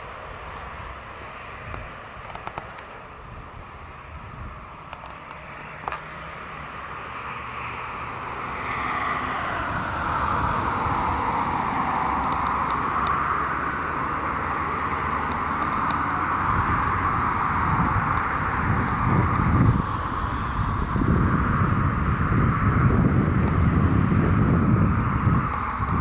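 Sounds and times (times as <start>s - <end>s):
distant engine hum: 0.0s - 26.0s.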